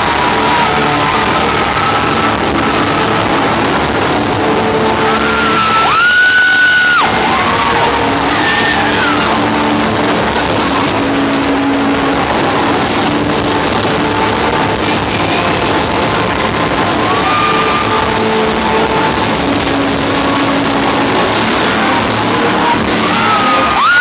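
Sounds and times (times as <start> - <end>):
loud dance music over sound system: 0.0 - 24.0.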